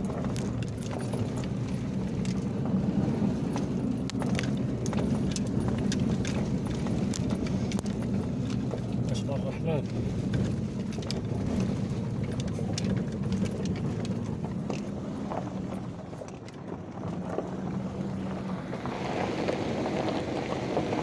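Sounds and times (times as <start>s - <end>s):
car engine running: 0.0s - 21.0s
clicks and rattles from tyres: 0.0s - 21.0s.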